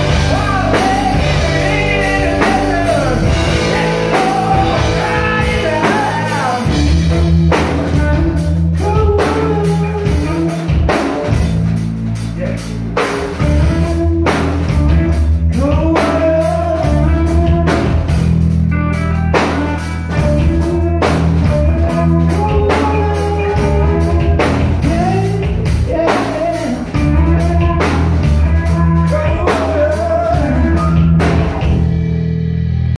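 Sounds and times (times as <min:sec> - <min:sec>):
bass guitar: 0:00.0 - 0:32.9
drum kit: 0:00.0 - 0:32.9
electric guitar: 0:00.0 - 0:32.9.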